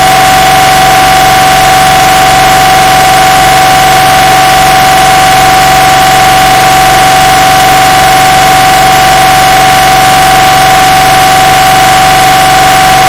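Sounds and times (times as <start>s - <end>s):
mri scanner loud buzz: 0.0s - 13.0s.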